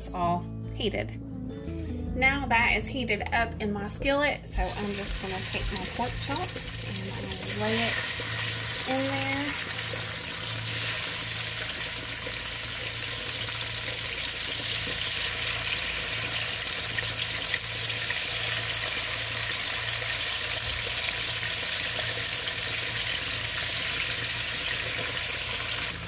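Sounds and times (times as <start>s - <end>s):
pork chops sizzling in oil: 4.5s - 26.0s.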